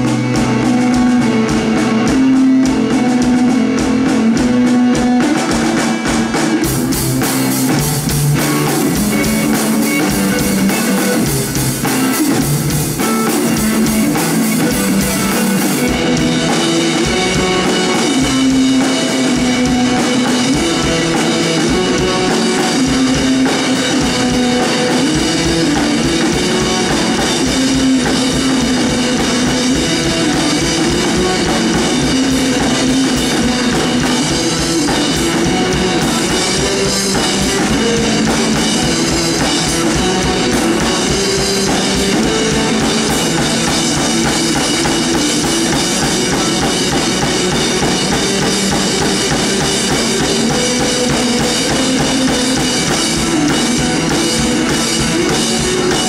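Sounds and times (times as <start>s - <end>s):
drum kit steady beat: 0.0s - 56.0s
electric guitar riffing: 0.0s - 56.0s.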